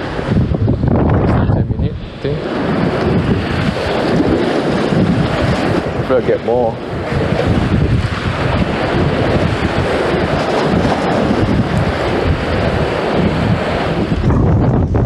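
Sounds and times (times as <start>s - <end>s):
rough sea surf: 0.0s - 15.0s
wind buffeting microphone: 0.0s - 15.0s.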